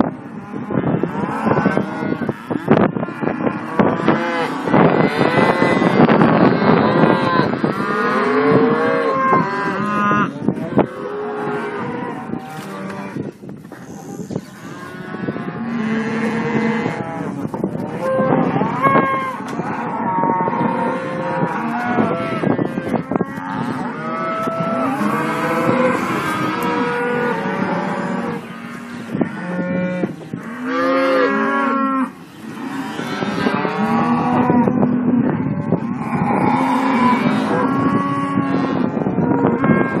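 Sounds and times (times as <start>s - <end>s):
calves mooing: 0.0s - 40.0s.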